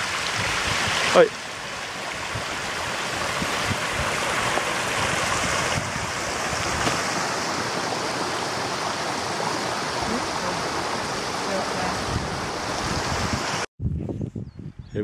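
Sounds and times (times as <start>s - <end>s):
stream running over stones: 0.0s - 13.7s.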